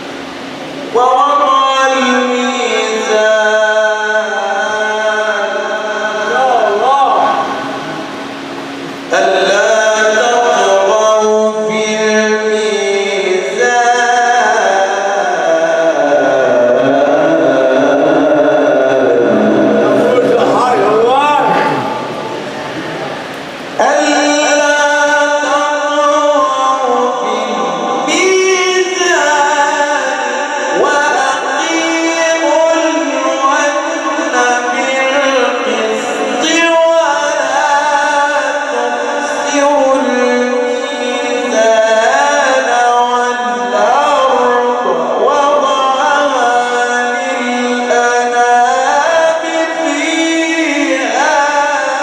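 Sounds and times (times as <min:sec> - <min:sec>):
man reciting melodically: 0:00.0 - 0:52.0.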